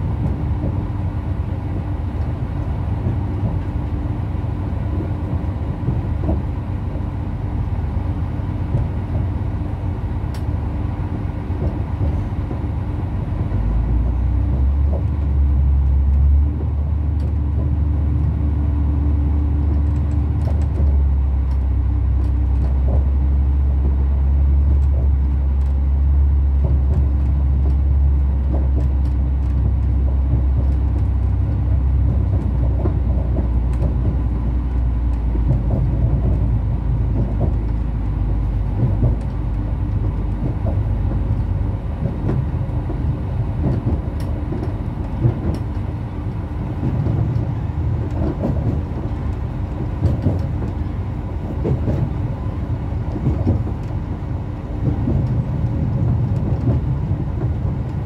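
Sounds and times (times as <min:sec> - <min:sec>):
train cabin drone: 0:00.0 - 0:58.0.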